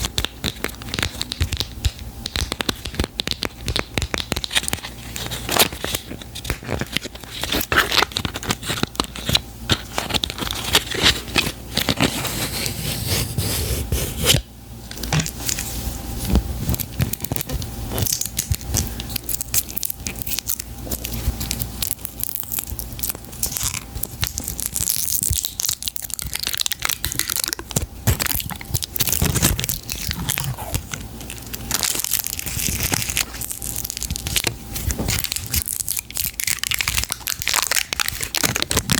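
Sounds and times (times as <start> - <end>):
packaging crinkling and tearing: 2.3 - 12.8, 16.6 - 38.9.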